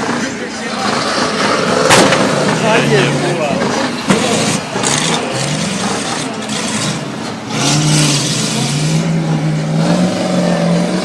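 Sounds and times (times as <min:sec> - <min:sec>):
truck engine revving: 0:00.8 - 0:11.0.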